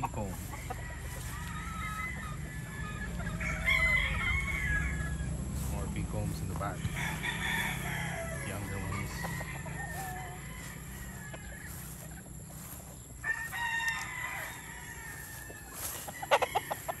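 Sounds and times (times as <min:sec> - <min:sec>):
distant rooster crowing: 0:00.0 - 0:17.0
rooster crowing: 0:00.0 - 0:17.0.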